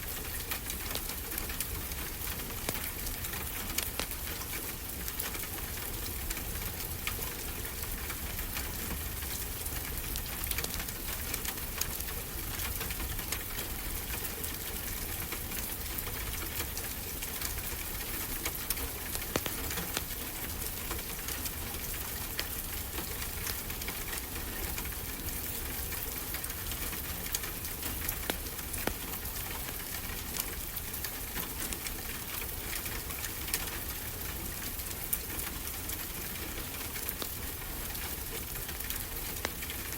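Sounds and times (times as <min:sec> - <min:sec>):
wood fire crackling: 0:00.1 - 0:13.5, 0:15.6 - 0:24.3, 0:24.9 - 0:39.9.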